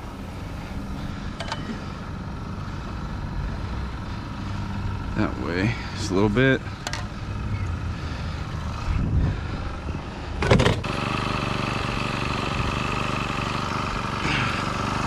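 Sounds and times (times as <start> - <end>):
post driver engine running: 0.0 - 15.0.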